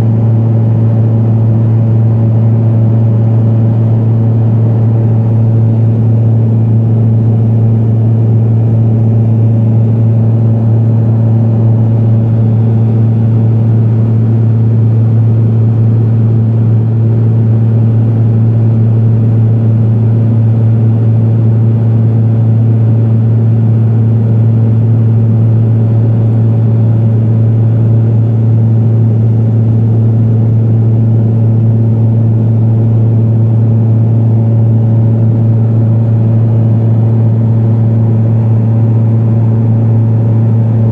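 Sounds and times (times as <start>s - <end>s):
turboprop cabin drone: 0.0s - 40.9s.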